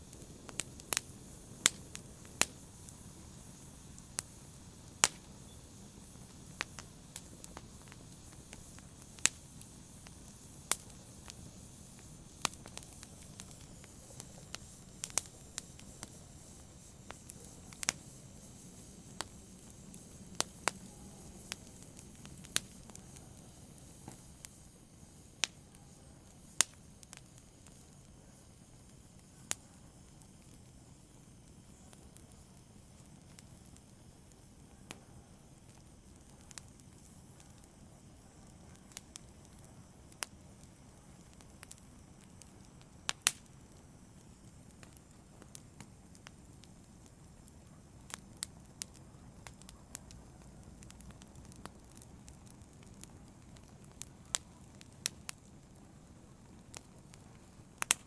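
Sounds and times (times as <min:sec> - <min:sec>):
wood fire crackling in a fireplace: 0:00.0 - 0:58.0.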